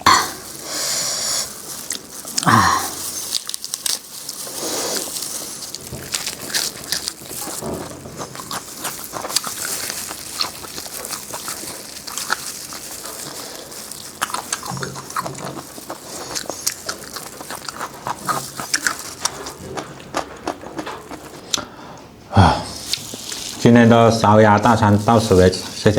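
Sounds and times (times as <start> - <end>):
chewing and biting food: 0.0 - 21.7, 22.8 - 23.8.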